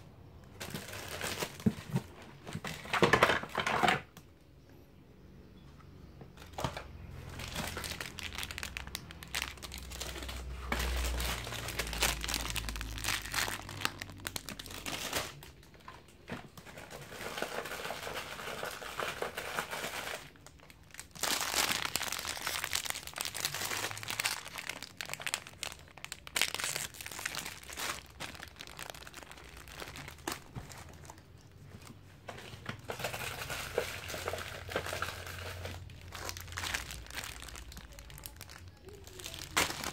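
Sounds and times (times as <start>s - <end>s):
paper and plastic crinkling: 0.5s - 4.1s, 6.4s - 39.9s.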